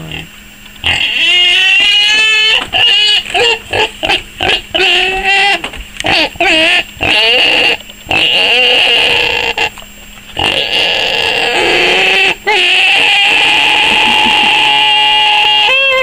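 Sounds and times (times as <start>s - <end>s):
pet whining squeals: 0.9s - 9.8s, 10.4s - 16.0s.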